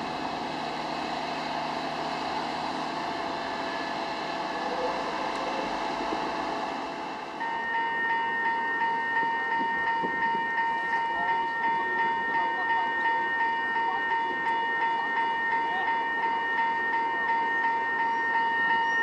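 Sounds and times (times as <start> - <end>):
railroad crossing bell ringing: 0.0 - 19.0.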